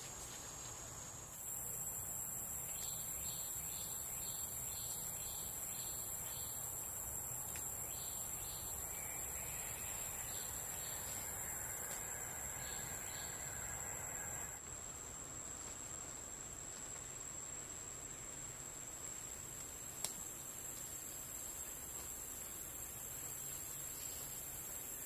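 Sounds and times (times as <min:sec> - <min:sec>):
insect chirps: 0:00.0 - 0:25.0
insect whine and hiss: 0:00.0 - 0:25.0.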